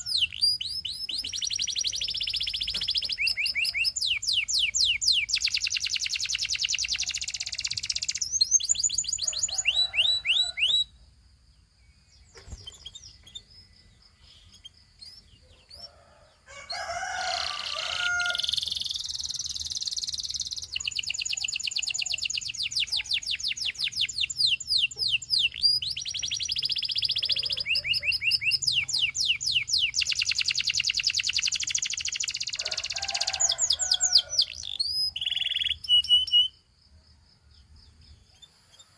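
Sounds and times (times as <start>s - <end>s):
canary singing trills: 0.0s - 11.0s, 11.9s - 36.7s.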